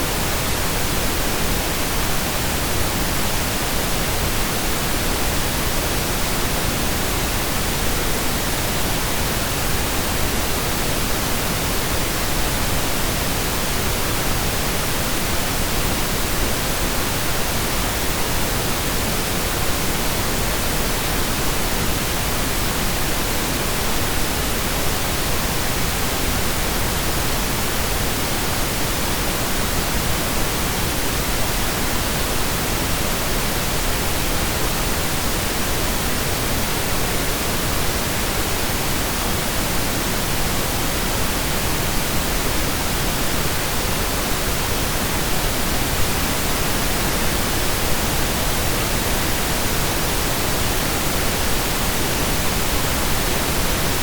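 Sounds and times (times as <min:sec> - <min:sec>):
synthesized pink noise: 0:00.0 - 0:54.0.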